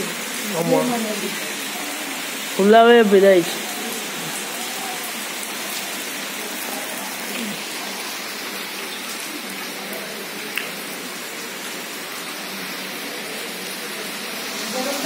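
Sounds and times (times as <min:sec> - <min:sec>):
heavy rain on floodwater: 0:00.0 - 0:15.0.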